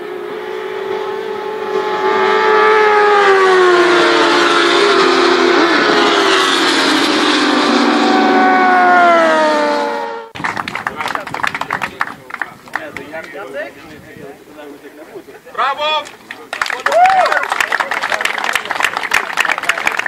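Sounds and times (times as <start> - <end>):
racing motorcycles passing: 0.0 - 20.0.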